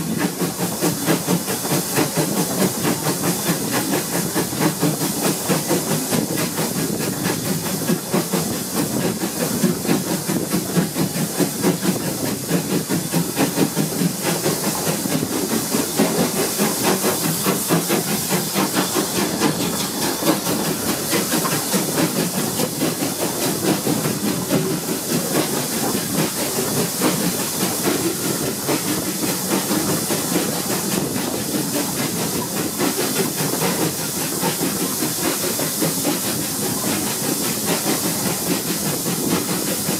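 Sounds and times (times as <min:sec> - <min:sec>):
steam hiss: 0:00.0 - 0:39.9
steam locomotive chuffs: 0:00.0 - 0:39.9
wheels rumbling on rails: 0:00.0 - 0:39.9.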